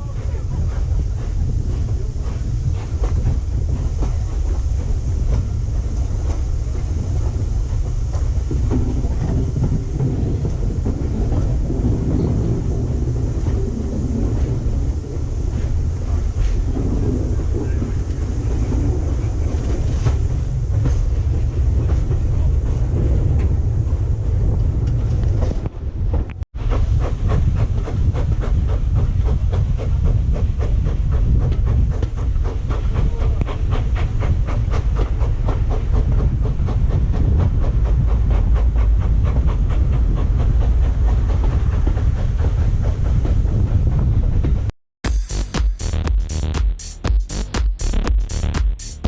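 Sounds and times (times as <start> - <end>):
train low rumble: 0.0 - 49.0.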